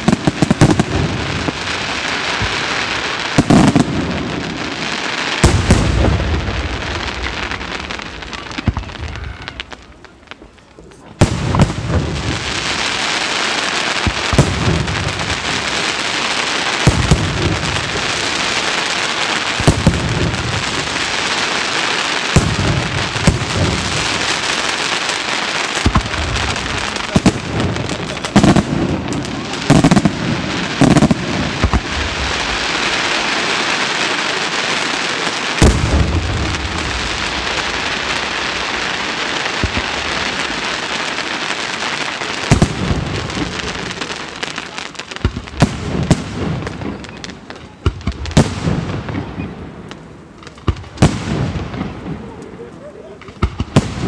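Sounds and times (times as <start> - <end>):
firework booms: 0.0 - 54.0
firework crackle: 0.0 - 54.0.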